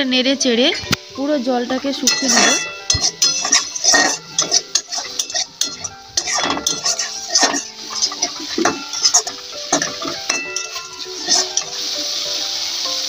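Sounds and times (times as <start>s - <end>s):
metal spatula scraping metal pan: 1.7s - 12.2s.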